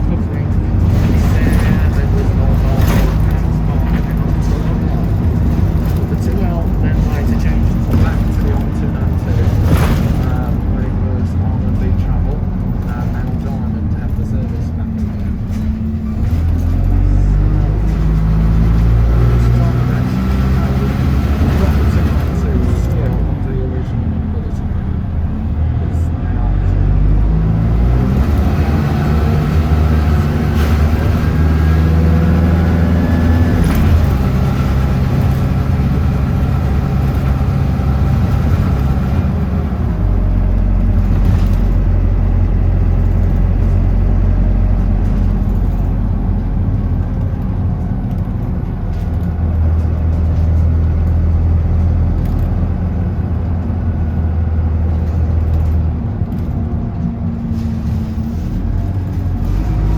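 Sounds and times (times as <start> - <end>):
bus engine whine and drone: 0.0 - 59.9
road noise: 0.0 - 59.9.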